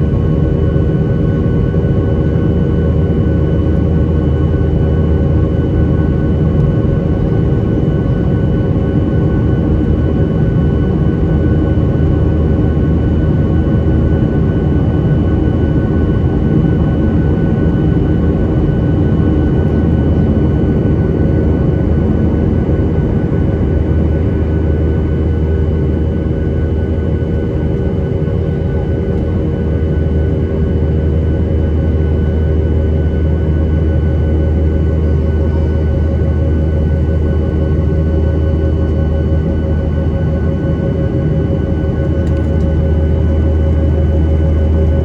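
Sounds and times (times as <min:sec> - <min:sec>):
jet engines running: 0:00.0 - 0:45.0.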